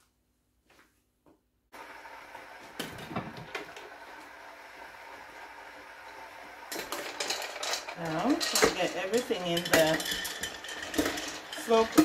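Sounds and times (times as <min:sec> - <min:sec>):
kitchen room noise hiss: 0:01.8 - 0:12.0.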